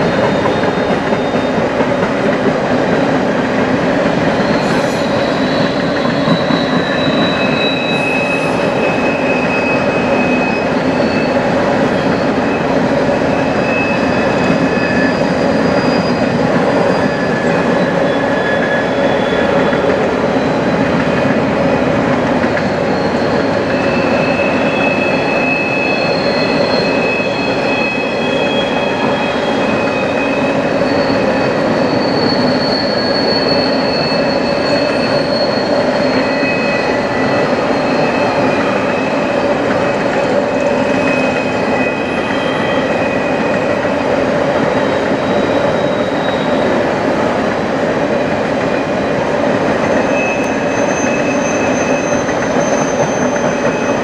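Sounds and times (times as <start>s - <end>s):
high wheel squeals: 0.0s - 54.0s
train wheels rumbling on rail: 0.0s - 54.0s.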